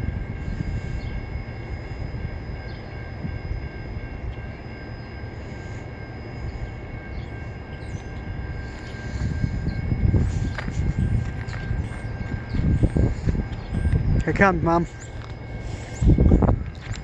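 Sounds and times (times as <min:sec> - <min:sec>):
thin steady whine: 0:00.0 - 0:17.0
train wheels rumbling on rail: 0:00.0 - 0:17.0.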